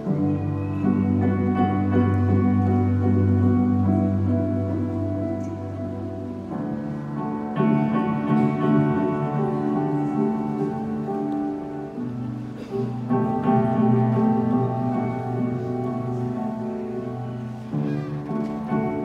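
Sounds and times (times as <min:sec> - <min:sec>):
slow held keyboard chords: 0:00.0 - 0:19.0.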